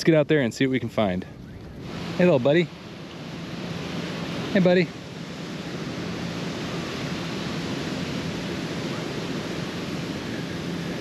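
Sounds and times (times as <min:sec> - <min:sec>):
ocean surf on sandy beach: 0:00.0 - 0:11.0.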